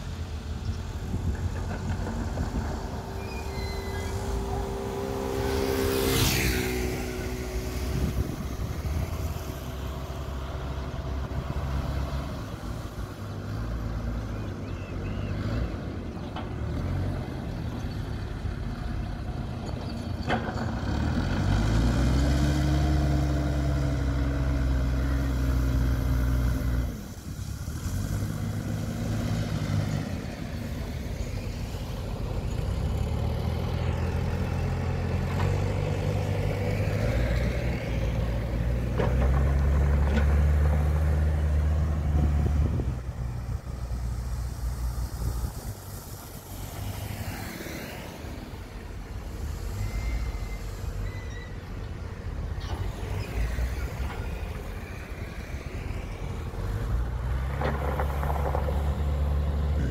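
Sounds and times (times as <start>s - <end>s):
diesel engine revving under load: 1.0s - 19.5s, 20.2s - 59.9s.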